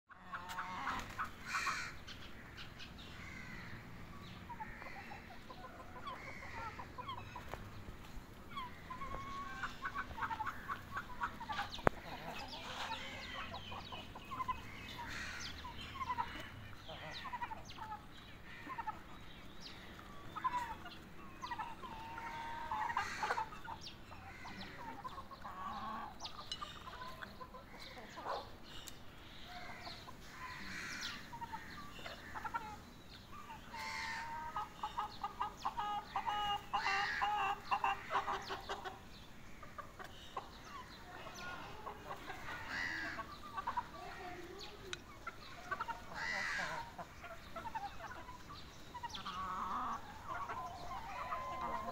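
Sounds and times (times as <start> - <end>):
chickens clucking: 0.1 - 51.9.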